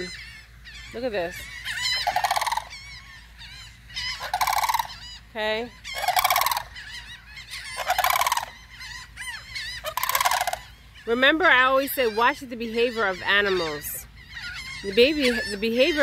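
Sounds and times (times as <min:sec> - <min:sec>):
crane rattling calls: 0:00.0 - 0:16.0
gulls crying: 0:00.0 - 0:16.0.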